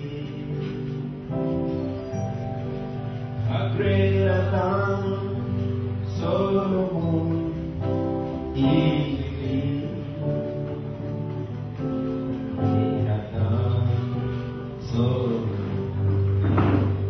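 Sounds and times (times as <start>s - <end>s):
man singing into a microphone: 0.0s - 1.8s, 3.4s - 11.4s, 12.5s - 17.0s
sustained instrumental chords: 0.0s - 17.0s.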